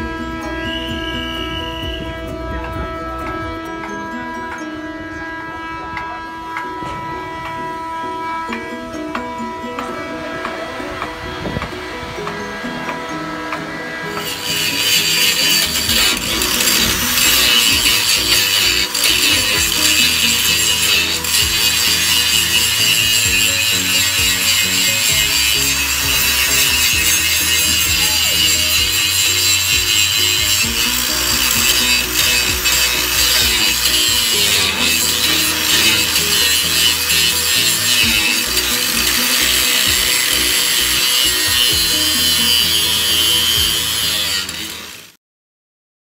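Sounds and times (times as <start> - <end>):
angle grinder cutting steel: 0.0 - 45.2
background music: 0.0 - 45.2.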